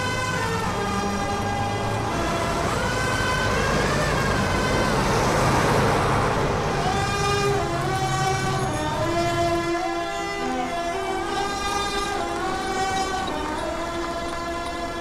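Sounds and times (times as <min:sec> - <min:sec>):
road traffic rumble: 0:00.0 - 0:15.0
vehicle horns: 0:00.0 - 0:15.0.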